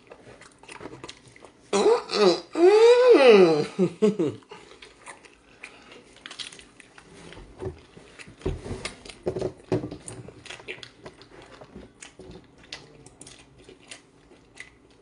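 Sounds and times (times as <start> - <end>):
person biting and chewing: 0.0 - 1.7, 4.4 - 15.0.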